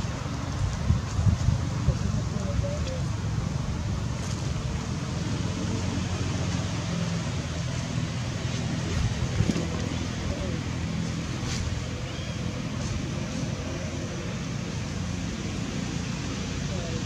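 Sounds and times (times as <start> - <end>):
low outdoor hum and rumble: 0.0 - 17.0.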